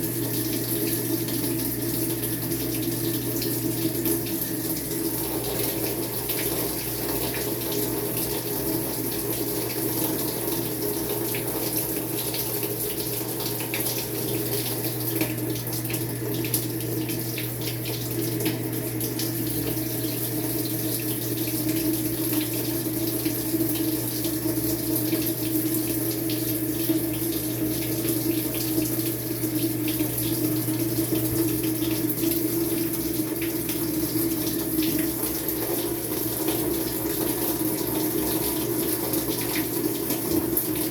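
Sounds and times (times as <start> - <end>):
water rushing into washer tub: 0.0 - 40.9.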